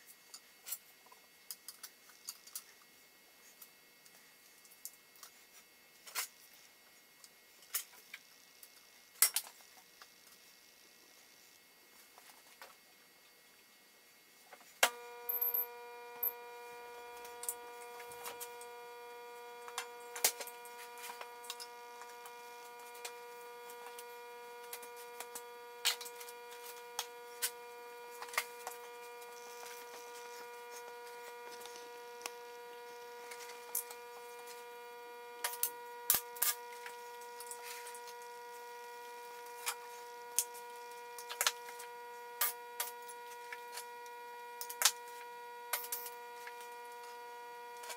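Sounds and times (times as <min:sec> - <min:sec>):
welder electrical hum: 0:00.0 - 0:47.9.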